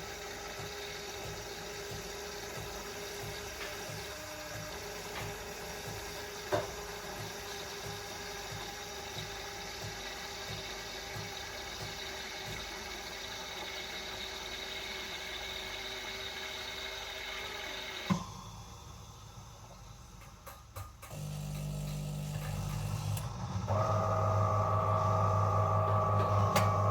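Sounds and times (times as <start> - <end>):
coffee machine pump humming: 0.0 - 26.9.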